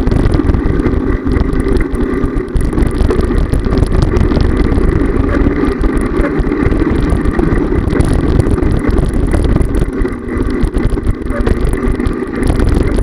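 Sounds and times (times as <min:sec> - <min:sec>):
bike tyres rolling over bricks: 0:00.0 - 0:13.0
wind buffeting microphone: 0:00.0 - 0:13.0.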